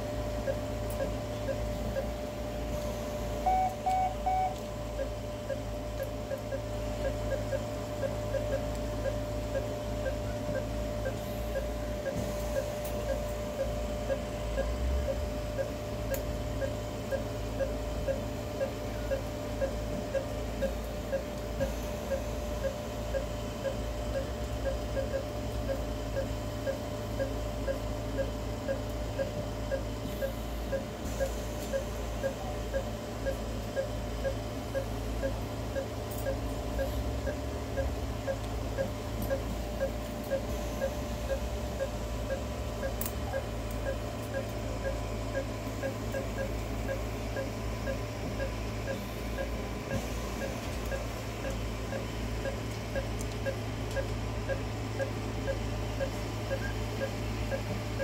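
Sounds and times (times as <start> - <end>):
low equipment hum: 0.0 - 58.0
patient monitor beeping: 0.2 - 58.0.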